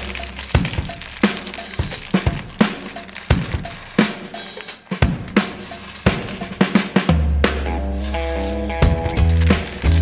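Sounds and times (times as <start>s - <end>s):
drum-kit beat: 0.0s - 10.0s.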